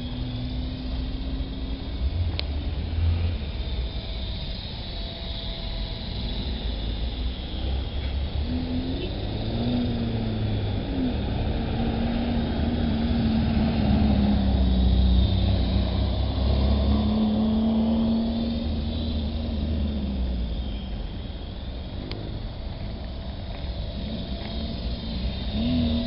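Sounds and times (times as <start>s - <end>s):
radio-controlled helicopter hum: 0.0s - 16.2s, 16.8s - 26.0s.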